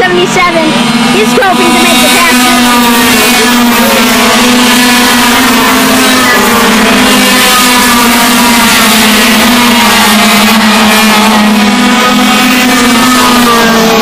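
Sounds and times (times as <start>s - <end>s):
two-stroke kart engines racing: 0.0s - 14.0s.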